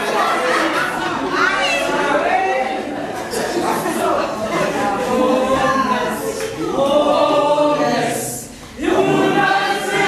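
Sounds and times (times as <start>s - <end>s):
group singing unaccompanied: 1.6s - 10.0s.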